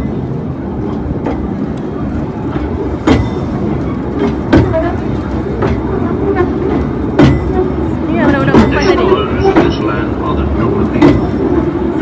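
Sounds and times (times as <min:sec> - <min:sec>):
train carriage rumbling: 0:00.0 - 0:12.0
wheels clacking on track: 0:00.0 - 0:12.0.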